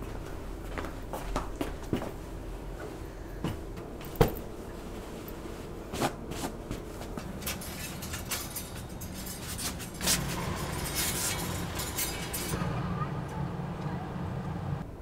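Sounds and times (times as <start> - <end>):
laundry rustling: 0.0 - 12.6.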